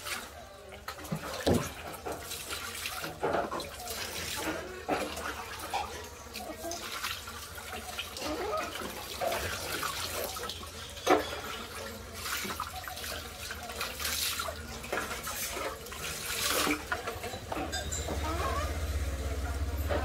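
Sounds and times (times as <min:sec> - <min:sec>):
water splashing and pouring: 0:00.0 - 0:18.0.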